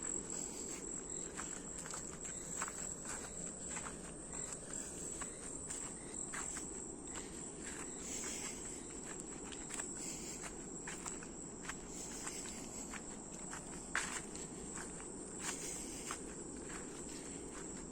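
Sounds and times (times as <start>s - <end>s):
footsteps on forest trail: 0.0s - 17.9s
insects buzzing: 0.0s - 17.9s.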